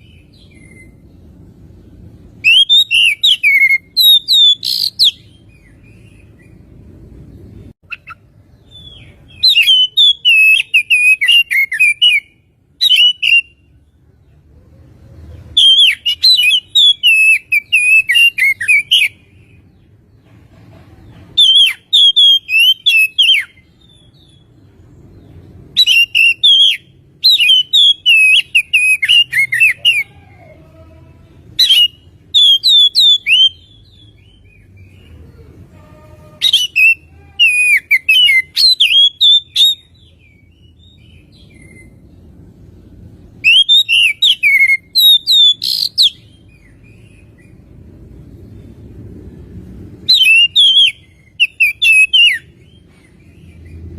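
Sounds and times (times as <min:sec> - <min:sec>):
magpie-robin singing: 0:00.0 - 0:06.7, 0:07.6 - 0:13.8, 0:15.4 - 0:20.0, 0:21.3 - 0:42.3, 0:43.4 - 0:47.7, 0:50.0 - 0:53.9.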